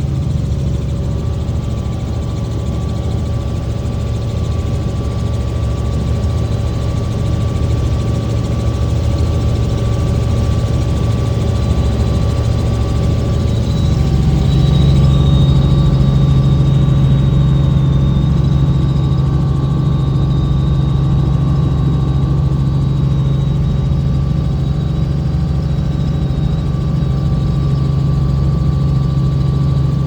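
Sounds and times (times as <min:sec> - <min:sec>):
helicopter engine and rotors: 0:00.0 - 0:30.0.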